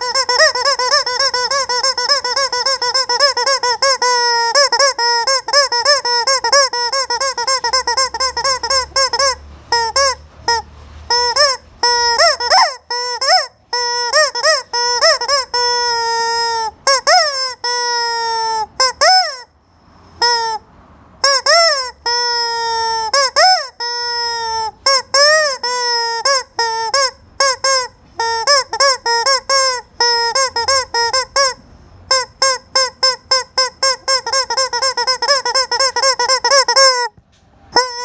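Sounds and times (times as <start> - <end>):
squeaky rubber chicken toy squawking: 0.0 - 38.0.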